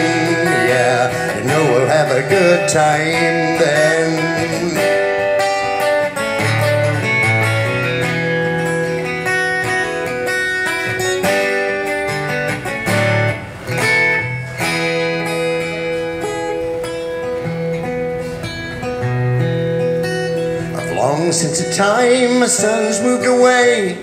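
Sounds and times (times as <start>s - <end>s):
acoustic guitar strummed and picked: 0.0s - 24.0s.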